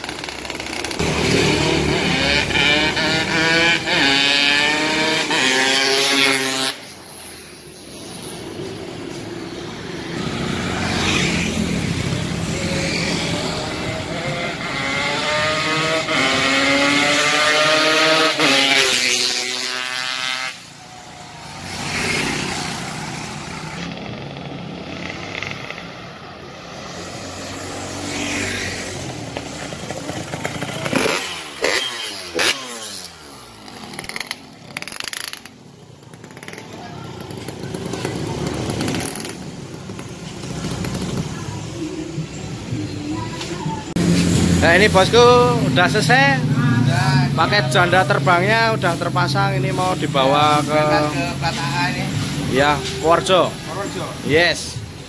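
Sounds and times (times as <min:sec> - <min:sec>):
motorcycle engine accelerating: 0:00.0 - 0:07.2, 0:10.1 - 0:26.0, 0:27.4 - 0:54.0.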